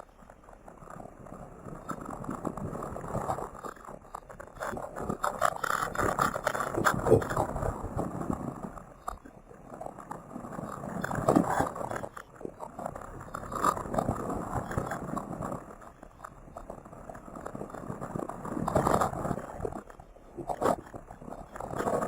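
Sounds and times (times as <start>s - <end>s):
crackling rustling noise: 0.0s - 22.0s.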